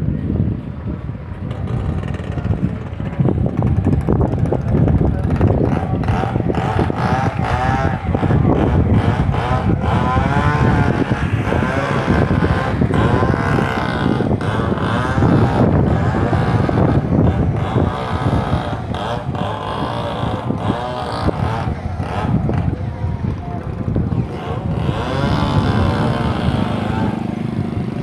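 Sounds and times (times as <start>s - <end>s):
people talking: 0.0s - 28.0s
steady low rumble: 0.0s - 28.0s.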